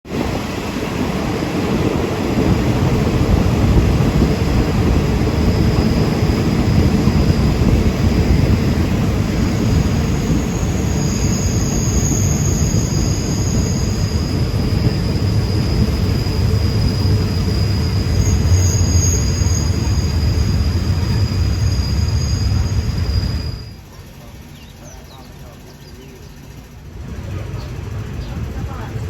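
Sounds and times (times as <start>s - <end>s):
train rumbling: 0.0s - 29.0s
faint high whines: 2.3s - 29.0s.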